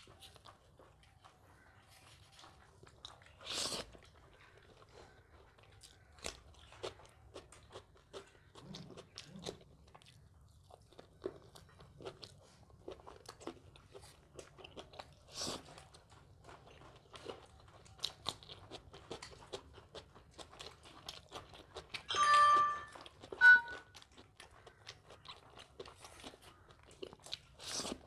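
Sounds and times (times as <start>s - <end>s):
person chewing and crunching food: 0.0s - 28.0s.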